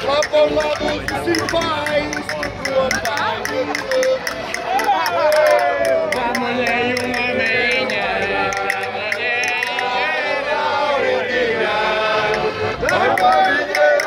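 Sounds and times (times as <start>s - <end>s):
accordion: 0.0s - 14.0s
men singing together: 0.0s - 14.0s.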